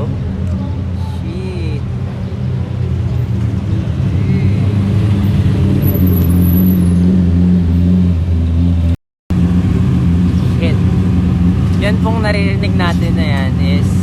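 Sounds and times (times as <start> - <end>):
car engine droning loudly: 0.0 - 14.0.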